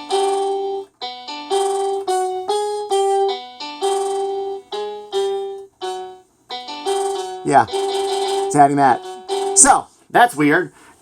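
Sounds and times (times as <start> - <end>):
toy keyboard piano chords: 0.0 - 9.8.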